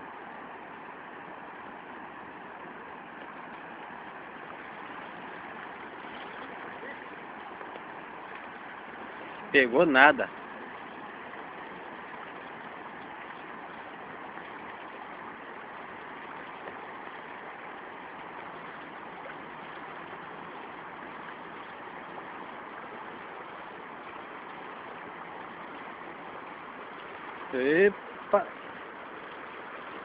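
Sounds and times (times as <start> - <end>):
river rushing over rocks: 0.0 - 30.0.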